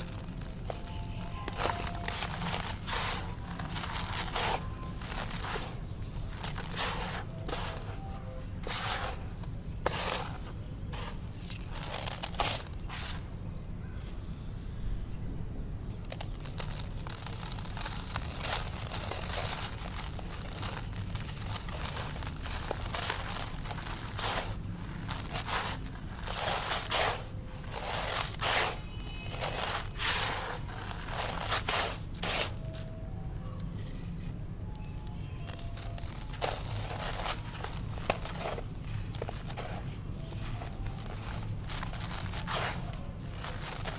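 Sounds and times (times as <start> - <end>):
concrete crunching: 0.0 - 13.3, 16.0 - 33.0, 33.7 - 43.9.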